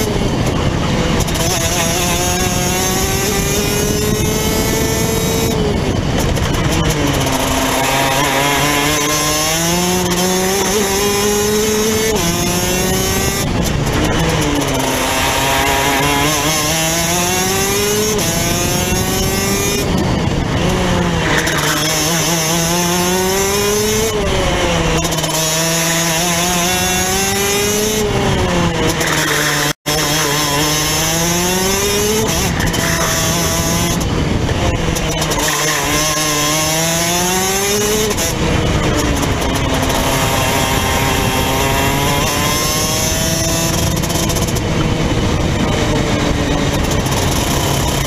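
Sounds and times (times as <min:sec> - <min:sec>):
kart two-stroke engine racing: 0:00.0 - 0:48.0
wind rush: 0:00.0 - 0:48.0.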